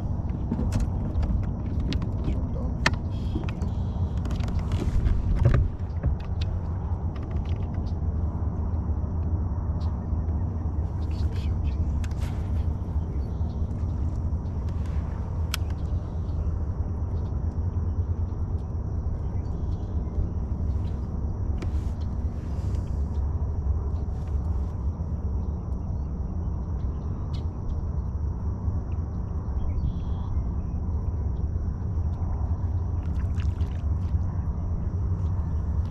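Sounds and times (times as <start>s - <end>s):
boat motor rumbling: 0.0s - 35.9s.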